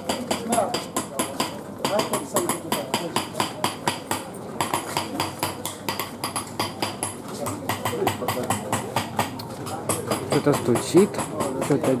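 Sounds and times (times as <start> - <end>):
faint voices of passers-by: 0.0 - 12.0
rapid hammering on metal: 0.0 - 12.0.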